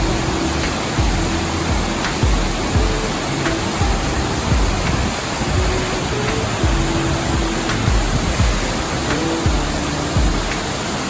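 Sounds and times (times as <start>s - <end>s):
soft music of held low notes: 0.0s - 11.0s
waterfall rushing: 0.0s - 11.0s.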